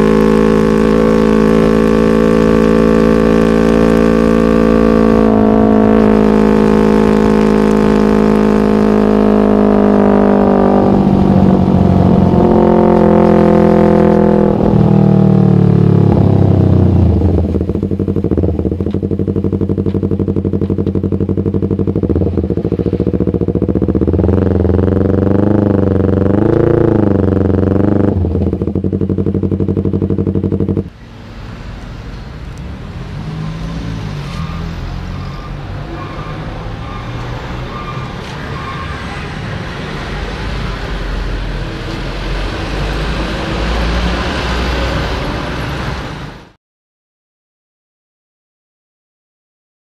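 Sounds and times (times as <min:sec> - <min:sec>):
rough engine running: 0:00.0 - 0:46.5
motorcycle engine revving: 0:00.0 - 0:46.6.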